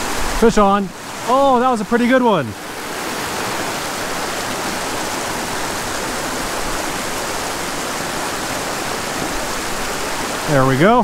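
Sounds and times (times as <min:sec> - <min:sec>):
creek flowing over rocks: 0:00.0 - 0:11.0.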